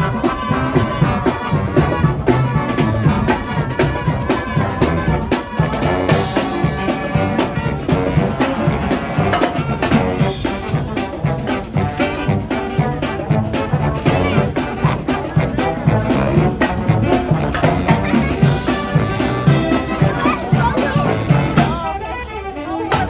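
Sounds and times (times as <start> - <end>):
upbeat music with brass and drums: 0.0 - 23.0.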